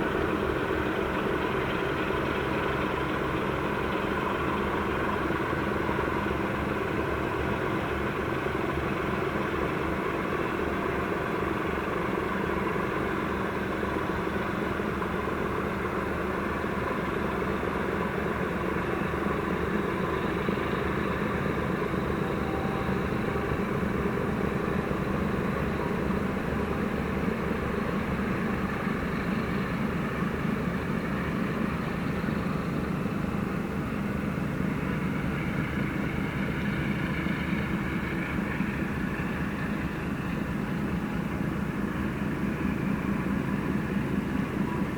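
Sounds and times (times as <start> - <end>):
steady mechanical drone: 0.0 - 44.9.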